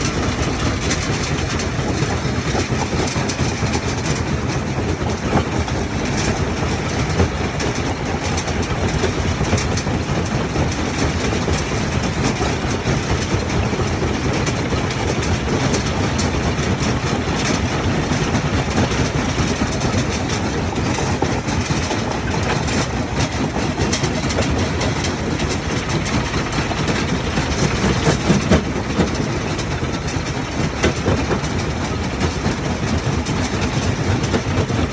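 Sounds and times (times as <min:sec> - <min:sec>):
heavy machinery rattling: 0:00.0 - 0:34.9.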